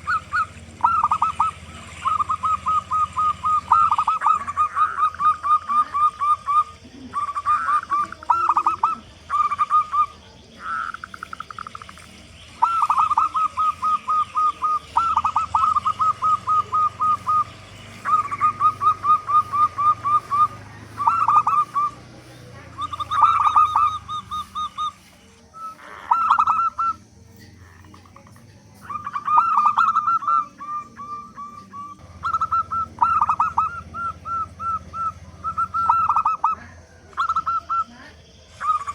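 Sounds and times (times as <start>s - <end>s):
dove cooing in staccato notes: 0.0s - 38.9s.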